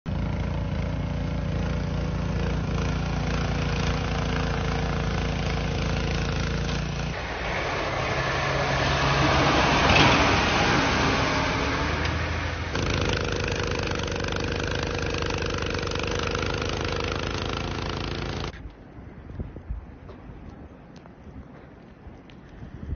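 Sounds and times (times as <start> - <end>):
engine running: 0.1 - 18.6
snowblower engine running: 0.1 - 18.6
snowplow blade pushing snow: 0.1 - 18.6.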